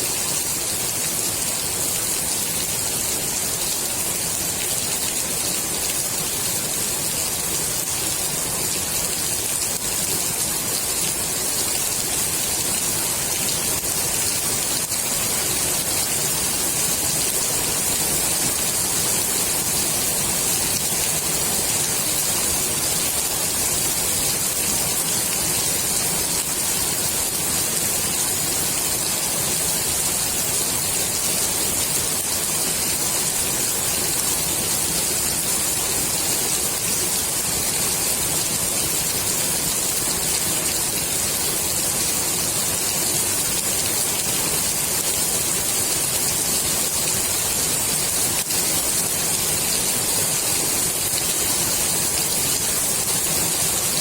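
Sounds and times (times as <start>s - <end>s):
rain falling on pool water: 0.0s - 54.0s.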